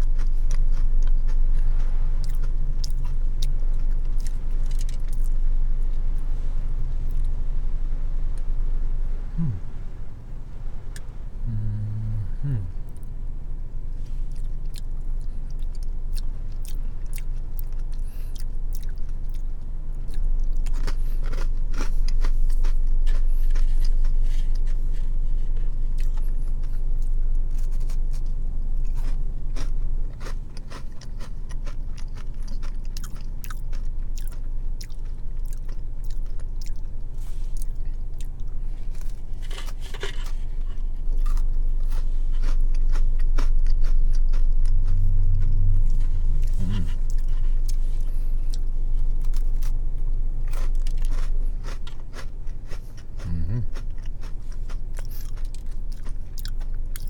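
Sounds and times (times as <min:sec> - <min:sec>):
chewing and crunching biscuits: 0:00.0 - 0:57.0
steady low hum: 0:00.0 - 0:57.0.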